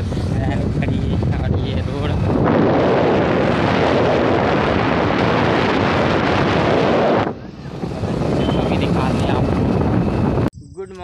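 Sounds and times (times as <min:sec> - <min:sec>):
road noise: 0:00.0 - 0:11.0
wind rushing on microphone: 0:00.0 - 0:11.0.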